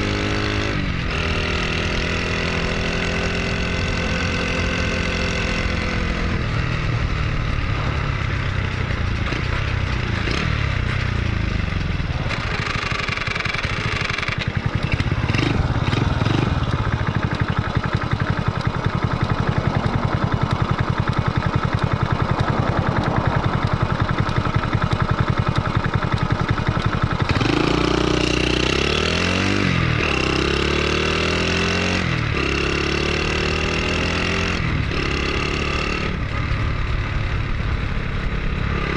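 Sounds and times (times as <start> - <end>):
motorcycle engine running and revving: 0.0 - 38.9.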